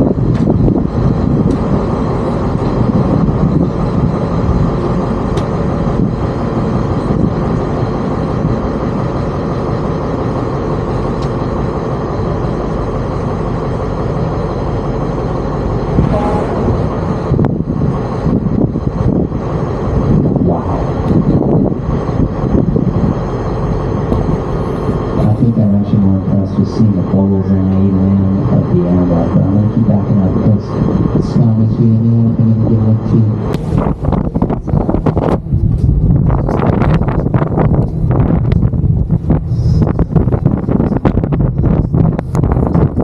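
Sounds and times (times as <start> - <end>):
boat engine drone: 0.0 - 43.0.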